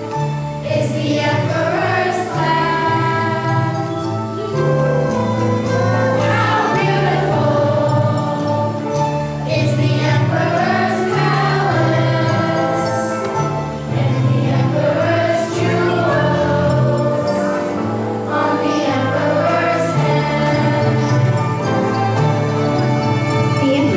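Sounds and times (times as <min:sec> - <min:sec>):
sustained musical accompaniment: 0:00.0 - 0:23.9
choir singing: 0:00.6 - 0:23.9.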